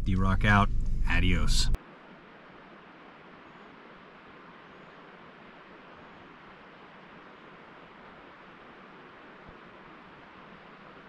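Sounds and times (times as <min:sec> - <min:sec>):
light wind hiss: 0:00.0 - 0:11.0.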